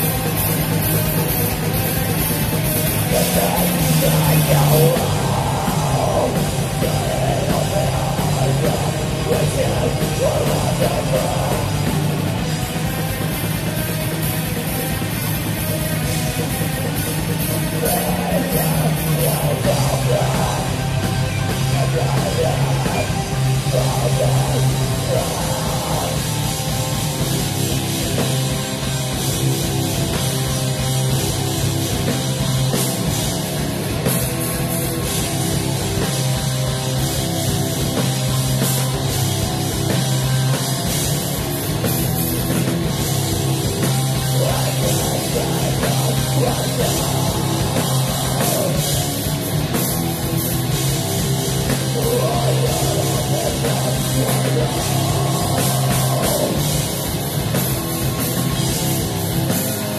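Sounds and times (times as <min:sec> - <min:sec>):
distorted guitars: 0:00.0 - 0:59.9
fast dense drumming: 0:00.0 - 0:59.9
low bass notes: 0:00.0 - 0:59.9.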